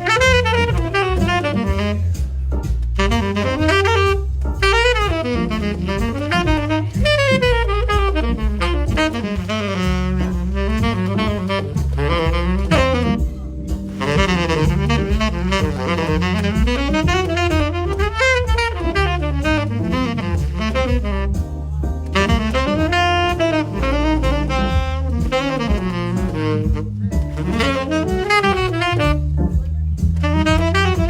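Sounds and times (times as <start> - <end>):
bass: 0.0 - 31.0
drums: 0.0 - 31.0
tenor saxophone jazz solo: 0.0 - 31.0.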